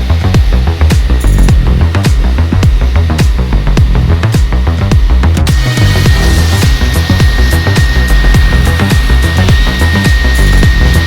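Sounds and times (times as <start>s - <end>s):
electronic music with bass drum: 0.0s - 11.0s
high-pitched whine: 0.0s - 11.0s.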